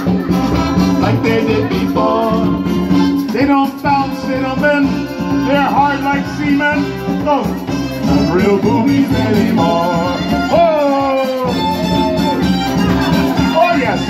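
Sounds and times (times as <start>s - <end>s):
live band playing upbeat song: 0.0s - 14.0s
person singing: 0.0s - 14.0s.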